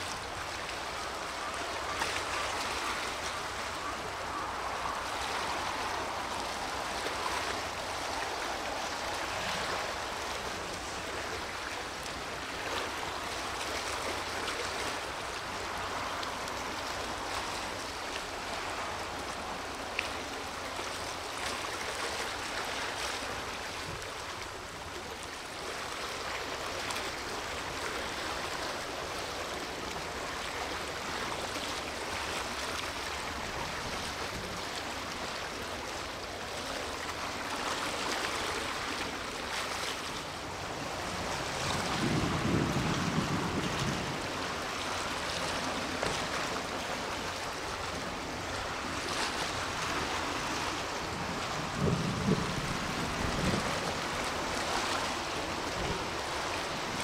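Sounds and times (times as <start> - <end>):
rushing seaside noise: 0.0 - 57.0.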